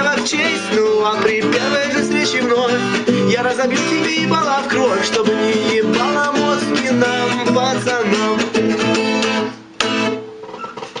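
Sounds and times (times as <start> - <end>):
man singing: 0.0 - 9.5
acoustic guitar strumming: 0.0 - 11.0.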